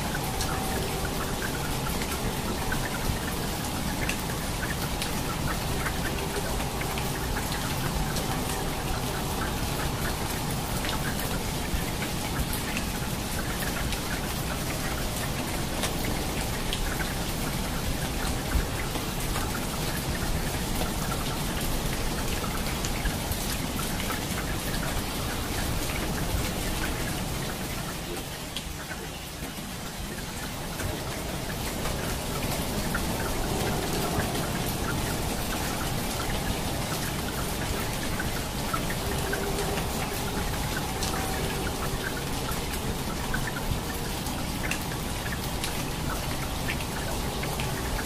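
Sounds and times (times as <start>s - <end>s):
raindrops splashing: 0.0s - 48.0s
steady rain: 0.0s - 48.0s.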